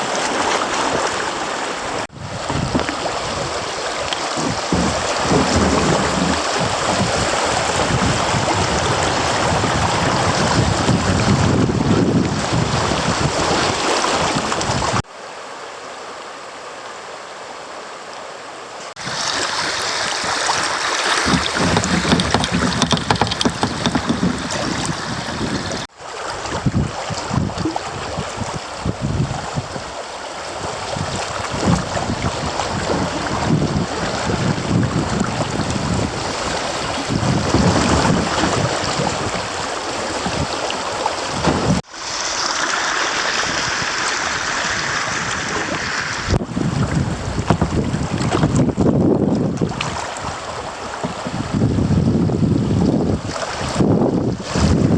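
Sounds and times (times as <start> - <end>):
creek water rushing: 0.0 - 54.9
wind buffeting microphone: 2.1 - 15.0, 19.0 - 42.2, 43.0 - 54.9.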